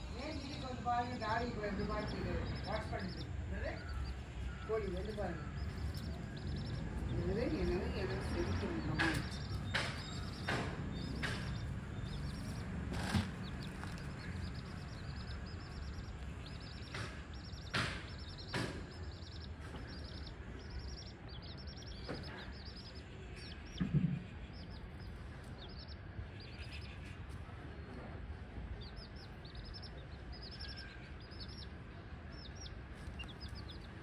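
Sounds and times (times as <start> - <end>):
chicks peeping: 0.0 - 27.9, 28.8 - 34.0.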